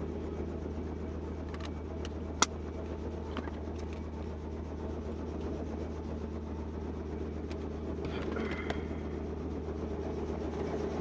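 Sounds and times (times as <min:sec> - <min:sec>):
helicopter drone: 0:00.0 - 0:11.0.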